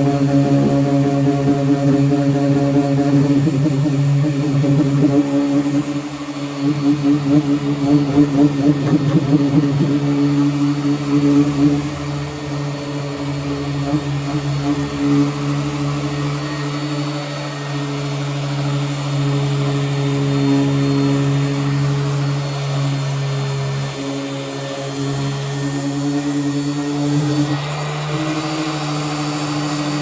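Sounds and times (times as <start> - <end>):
power sander motor hum: 0.0 - 30.0.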